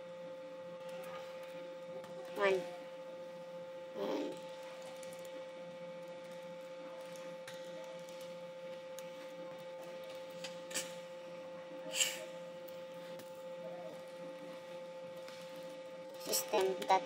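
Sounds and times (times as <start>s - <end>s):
high-pitched electrical hum: 0.0s - 17.0s.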